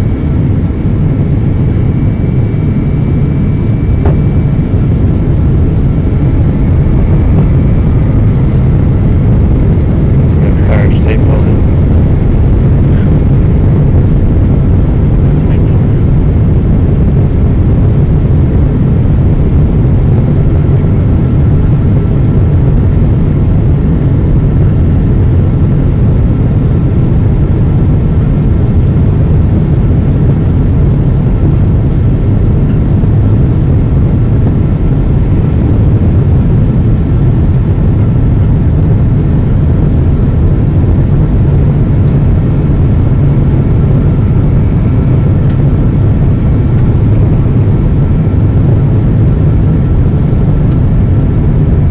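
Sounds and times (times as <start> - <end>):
airliner cabin roar: 0.0 - 51.9
faint steady whine: 0.0 - 51.9.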